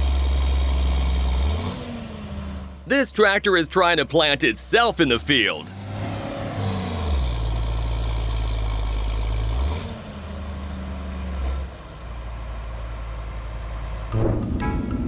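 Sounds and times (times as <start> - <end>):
tractor engine running: 0.0 - 14.6.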